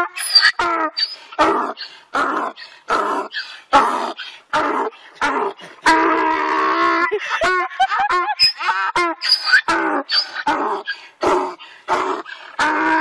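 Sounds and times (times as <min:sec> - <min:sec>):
animal crying and yelping: 0:00.0 - 0:06.1, 0:06.7 - 0:13.0.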